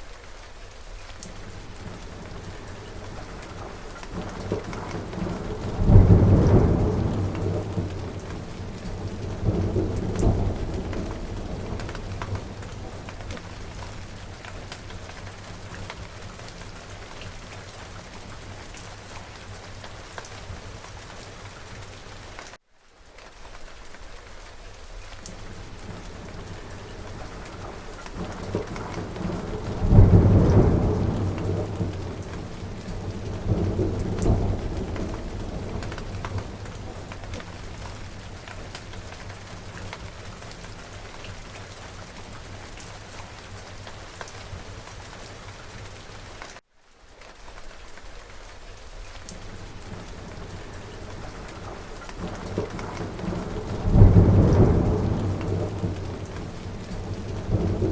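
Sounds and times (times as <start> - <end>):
steady rain falling: 0.0 - 57.9
thunder rumbling: 1.4 - 21.1, 25.4 - 44.8, 49.3 - 57.9.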